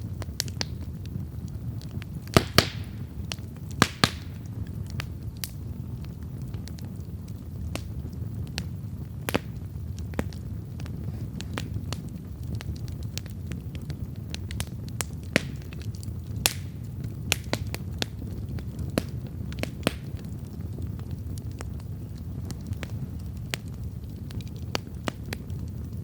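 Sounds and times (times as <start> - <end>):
burning wood popping and crackling: 0.0 - 26.0
campfire flames rumbling: 0.0 - 26.0.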